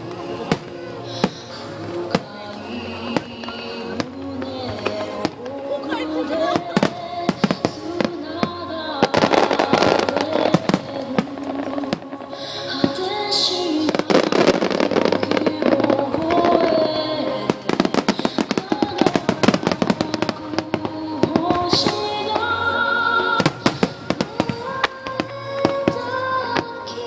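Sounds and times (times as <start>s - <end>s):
fireworks bursting: 0.0s - 22.6s, 23.2s - 26.8s
loud music: 0.0s - 27.0s.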